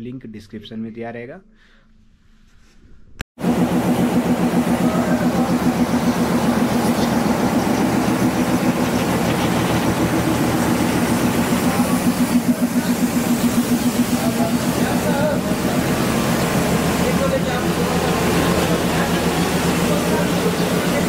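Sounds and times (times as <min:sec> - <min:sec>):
heavy engine running: 0:03.4 - 0:21.0.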